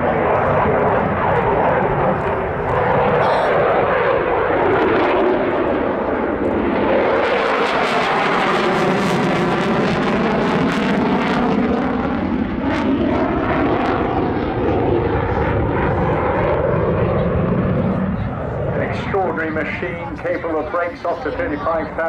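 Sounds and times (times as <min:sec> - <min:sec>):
jet engine whine: 0:00.0 - 0:22.0
jet engines roaring: 0:00.0 - 0:22.0.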